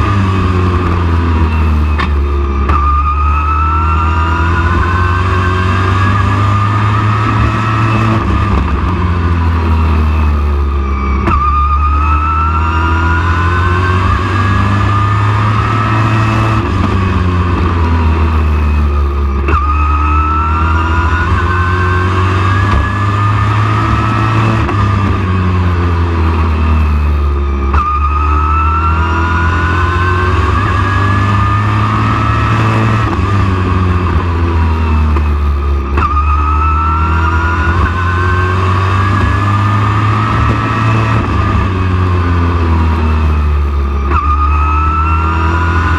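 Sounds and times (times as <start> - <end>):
race truck engine accelerating: 0.0 - 45.9.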